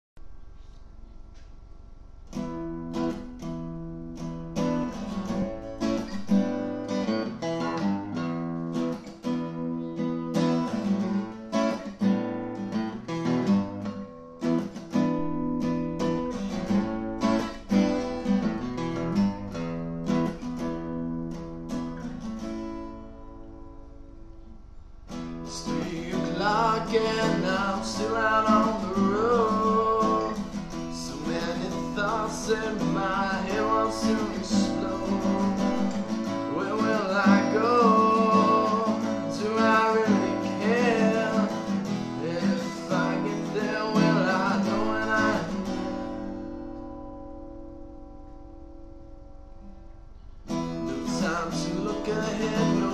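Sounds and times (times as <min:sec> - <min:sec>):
acoustic guitar music: 0:00.2 - 0:52.9.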